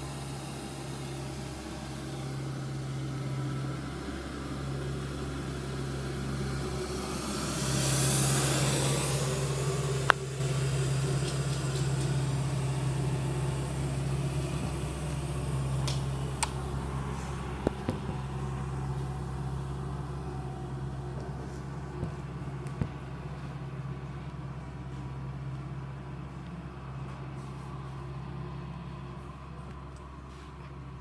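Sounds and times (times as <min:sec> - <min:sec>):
street sweeper engine and brushes: 0:00.0 - 0:31.0.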